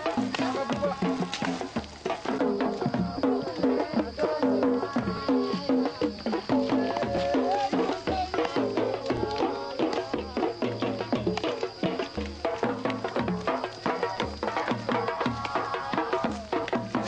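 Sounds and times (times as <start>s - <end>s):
clicking percussion: 0.0s - 17.0s
low drum beat: 0.0s - 17.0s.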